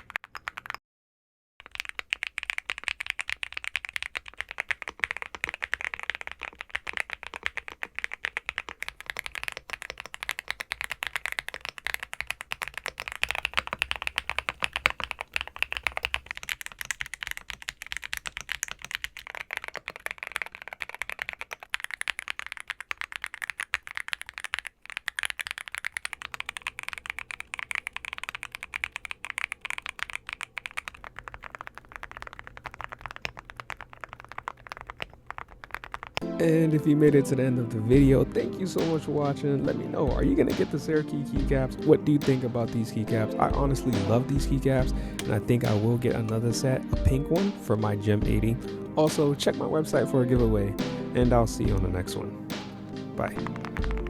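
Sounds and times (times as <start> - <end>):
fast typing on mechanical keyboard: 0.0 - 0.8, 1.6 - 54.0.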